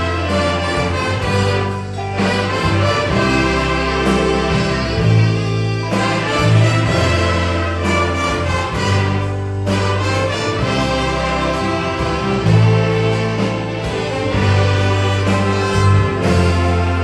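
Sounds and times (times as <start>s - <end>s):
brass orchestra playing a hymn: 0.0s - 17.0s
sustained bass line: 0.0s - 17.0s.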